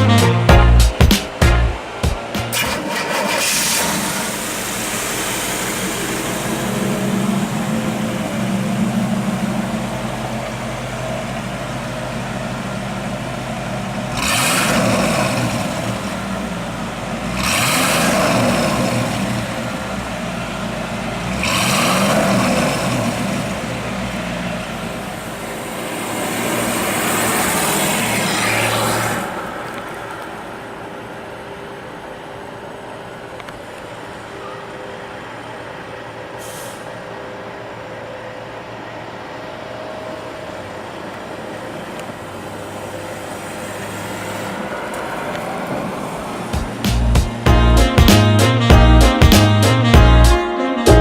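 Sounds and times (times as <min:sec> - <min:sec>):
car engine idling and revving: 0:01.6 - 0:48.0.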